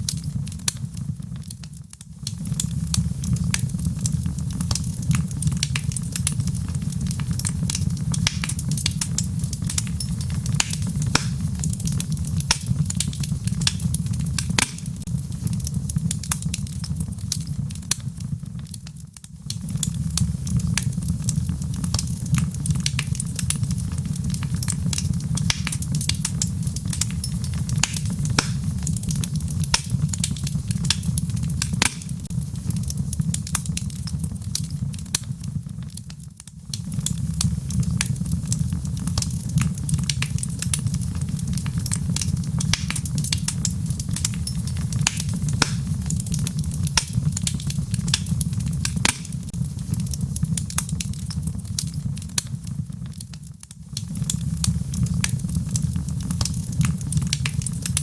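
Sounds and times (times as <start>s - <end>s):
fire crackling and popping: 0.0s - 58.0s
fire rumbling: 0.0s - 58.0s.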